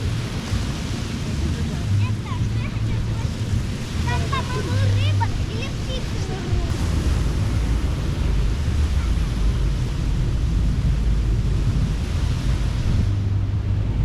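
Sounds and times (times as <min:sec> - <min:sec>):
ocean surf washing on beach: 0:00.0 - 0:14.0
wind buffeting microphone: 0:00.0 - 0:14.0.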